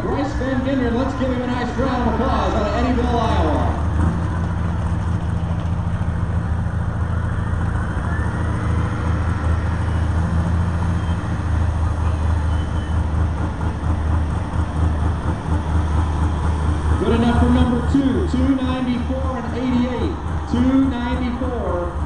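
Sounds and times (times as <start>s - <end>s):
heavy engine droning: 0.0s - 22.0s.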